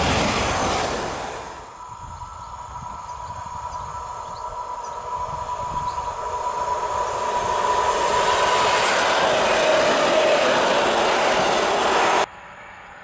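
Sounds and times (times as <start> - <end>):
train wheels rumbling on rails: 0.0 - 12.3
steady high tone: 0.0 - 12.6.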